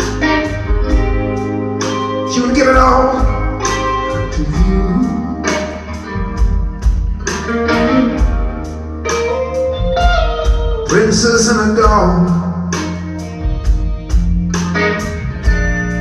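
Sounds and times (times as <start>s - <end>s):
bass guitar: 0.0s - 16.0s
drum kit with cymbal hits: 0.0s - 16.0s
electric guitar sustained notes: 0.0s - 16.0s.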